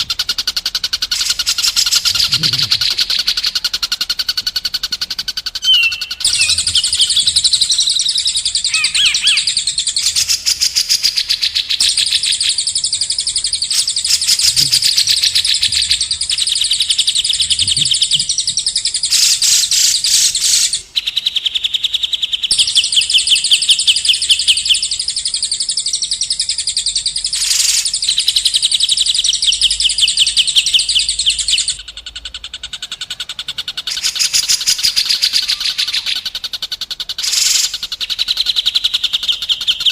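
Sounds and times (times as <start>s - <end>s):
songbird singing fast trills: 0.0s - 39.9s.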